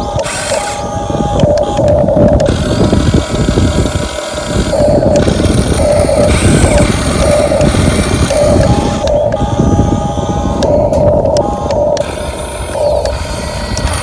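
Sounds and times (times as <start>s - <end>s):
dense crackling noise: 0.0s - 3.0s, 4.0s - 9.8s, 10.4s - 14.0s
small electric motors whirring: 0.0s - 14.0s.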